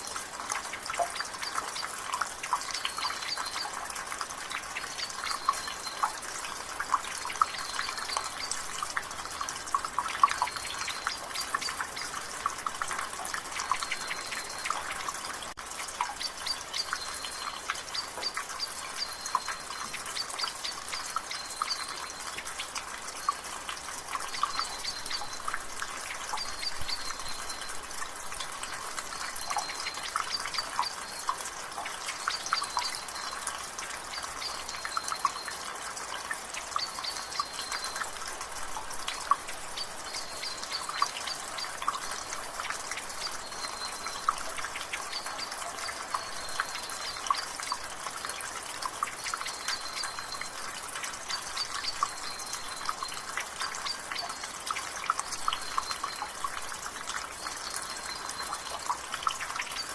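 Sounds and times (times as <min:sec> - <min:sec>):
water dripping from gutter: 0:00.0 - 0:59.9.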